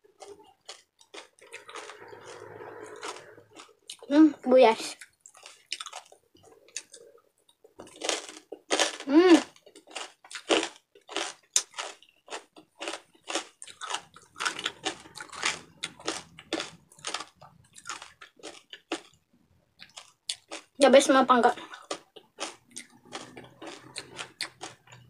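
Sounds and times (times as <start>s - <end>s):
crunchy chewing: 0.0s - 4.1s, 4.9s - 19.2s, 19.8s - 20.8s, 21.5s - 25.0s.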